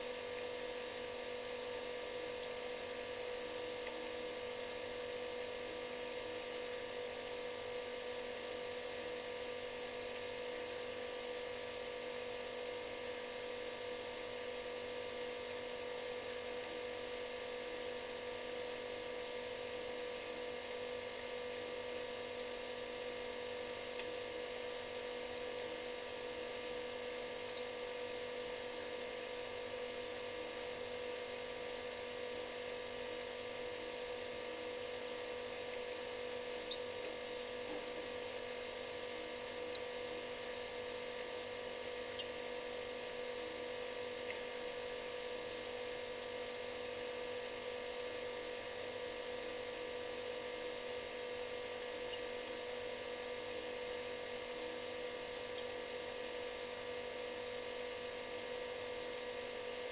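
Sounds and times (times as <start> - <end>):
refrigerator electric hum: 0.0 - 59.9.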